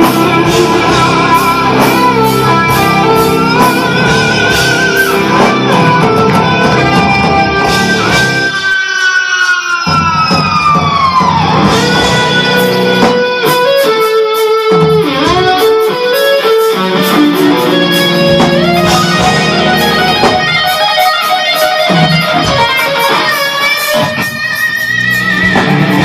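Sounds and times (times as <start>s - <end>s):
bass and drums: 0.0s - 8.8s, 9.8s - 26.0s
electric guitar solo: 0.0s - 26.0s.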